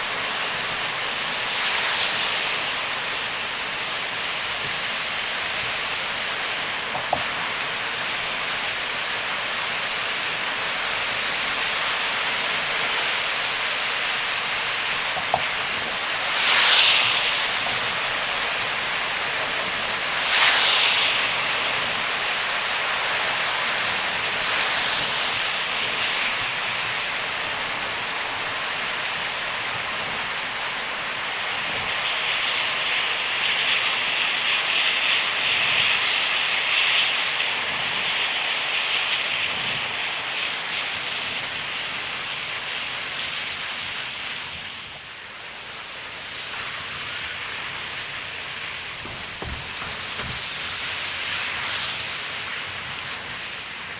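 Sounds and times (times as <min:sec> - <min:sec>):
heavy rain on a car: 0:00.0 - 0:53.9
tyres hissing on wet road: 0:00.0 - 0:53.9.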